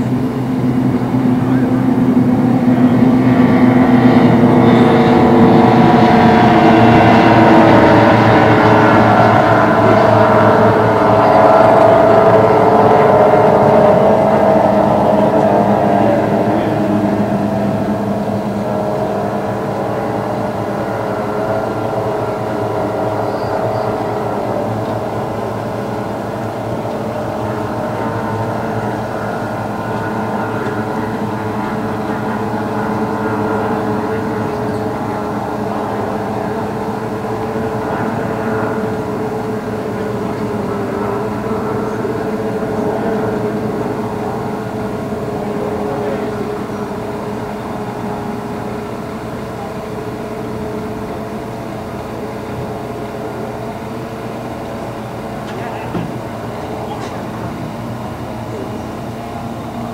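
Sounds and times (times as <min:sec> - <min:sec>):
racing boat engines droning: 0:00.0 - 0:59.9.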